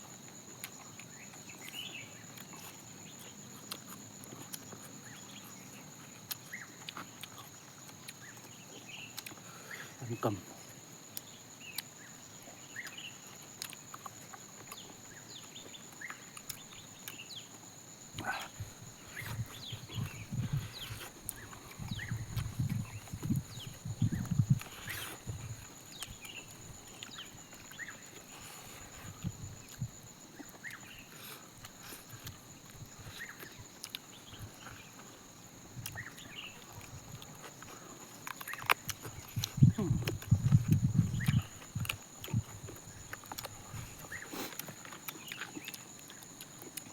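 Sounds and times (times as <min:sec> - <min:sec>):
person chewing food: 0:00.2 - 0:09.7, 0:10.6 - 0:46.9.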